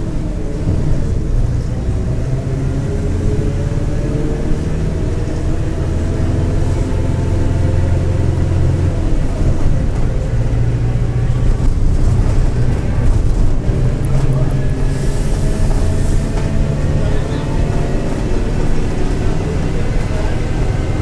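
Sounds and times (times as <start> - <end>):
bus diesel engine: 0.0 - 21.0.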